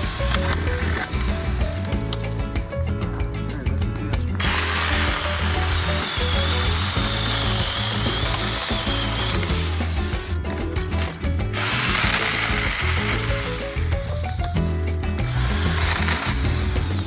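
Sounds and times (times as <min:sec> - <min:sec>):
electric chainsaw whining: 0:00.0 - 0:02.3, 0:04.4 - 0:14.5, 0:15.2 - 0:17.0
background music: 0:00.0 - 0:17.0.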